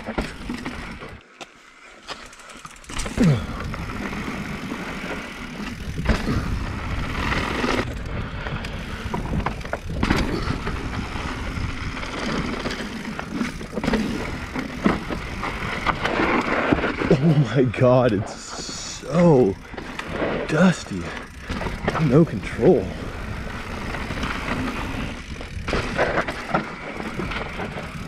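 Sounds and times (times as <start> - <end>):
bike rattling: 0.0 - 28.0
bike tyres sliding over dirt: 0.0 - 28.0.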